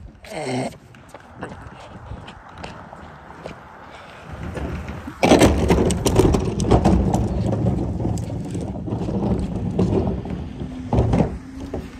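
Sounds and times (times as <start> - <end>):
trash cart wheels rolling on concrete: 1.6 - 11.9.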